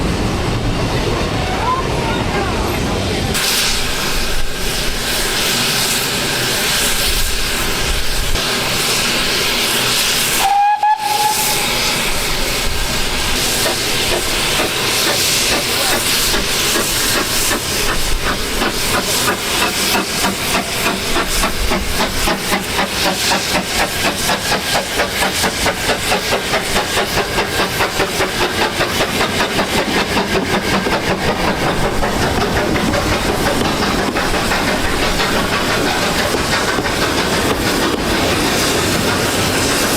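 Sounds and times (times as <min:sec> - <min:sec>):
steam locomotive hissing steam: 0:00.0 - 0:39.9.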